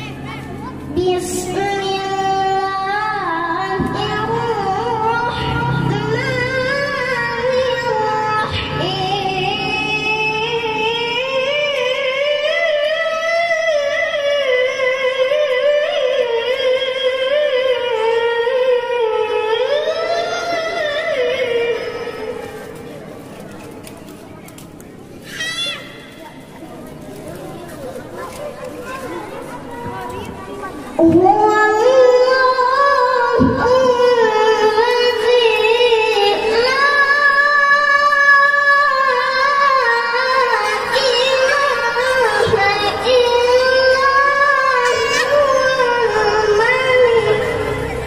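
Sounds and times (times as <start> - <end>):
boy reciting through loudspeaker: 0.0 - 48.0.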